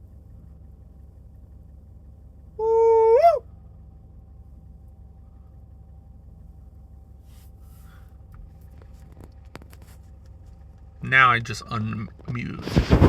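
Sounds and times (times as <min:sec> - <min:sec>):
faint steady hum: 0:00.0 - 0:13.0
low steady rumble: 0:00.0 - 0:13.0.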